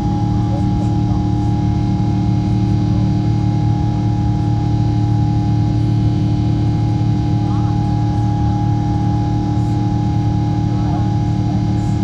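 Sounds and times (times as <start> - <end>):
jet engine drone in cabin: 0.0 - 12.0.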